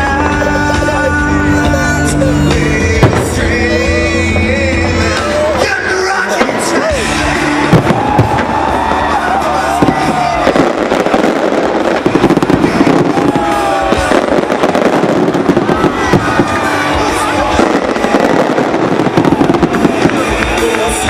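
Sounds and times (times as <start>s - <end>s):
fireworks banging and crackling: 0.0s - 21.0s
music over sound system: 0.0s - 21.0s.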